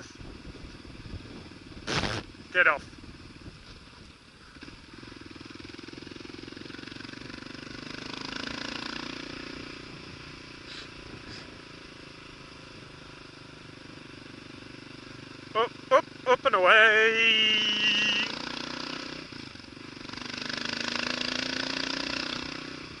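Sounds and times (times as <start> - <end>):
motorcycle engine climbing: 0.0 - 23.0.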